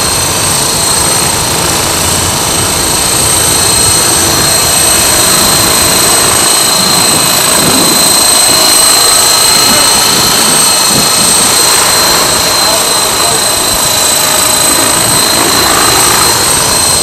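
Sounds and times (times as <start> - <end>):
rc helicopter motor whine: 0.0 - 17.0
rotor blades rushing: 0.0 - 17.0.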